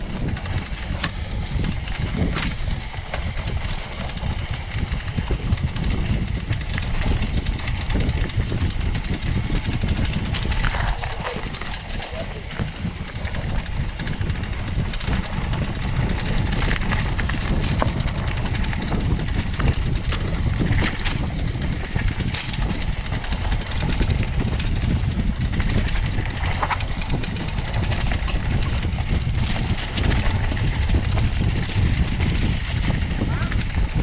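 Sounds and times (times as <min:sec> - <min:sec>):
bike clicks and rattles: 0:00.0 - 0:34.0
wind rumbling on microphone: 0:00.0 - 0:34.0.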